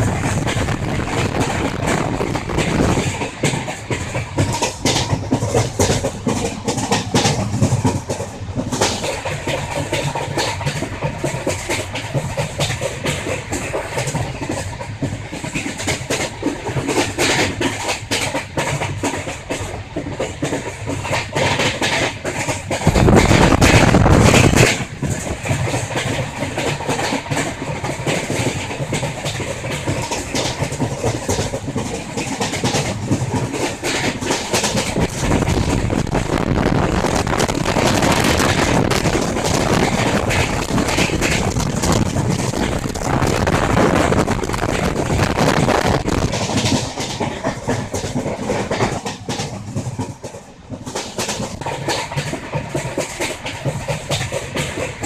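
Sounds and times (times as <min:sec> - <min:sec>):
train rumble: 0:00.0 - 0:55.0
train wheels clattering: 0:00.0 - 0:55.0.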